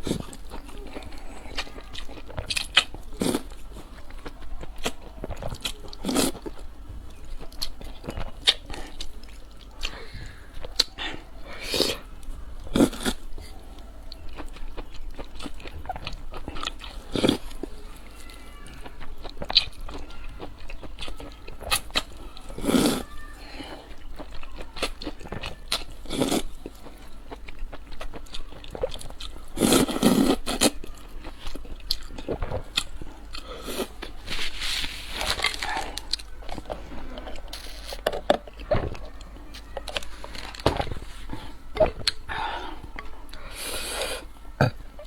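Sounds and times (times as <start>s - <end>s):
person chewing crunchy food: 0.0s - 45.0s.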